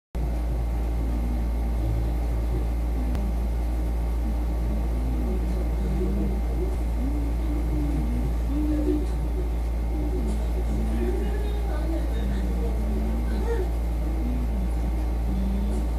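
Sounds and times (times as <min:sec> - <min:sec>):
faint voices talking: 0:00.2 - 0:15.9
low hum: 0:00.2 - 0:15.9.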